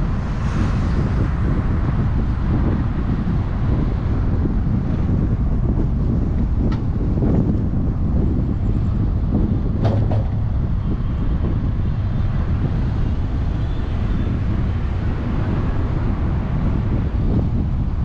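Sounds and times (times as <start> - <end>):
moving vehicle rumble: 0.0 - 18.0
wind noise on microphone: 0.0 - 18.0.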